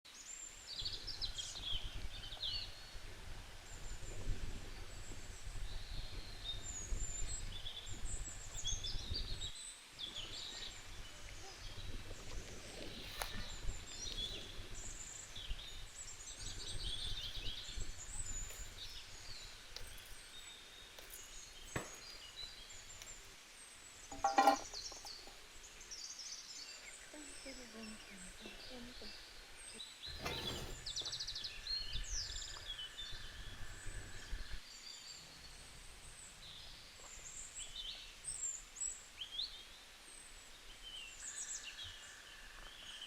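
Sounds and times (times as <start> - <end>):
small birds chirping and trilling: 0.1 - 43.0.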